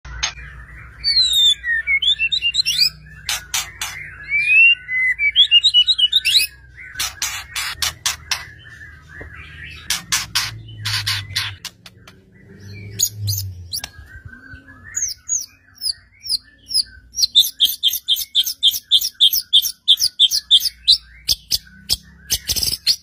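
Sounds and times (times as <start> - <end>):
bird whistling song: 0.1 - 23.0.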